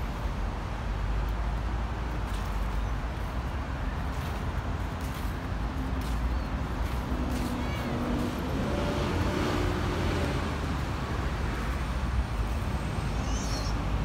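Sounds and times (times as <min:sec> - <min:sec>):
city road traffic rumble: 0:00.0 - 0:14.0.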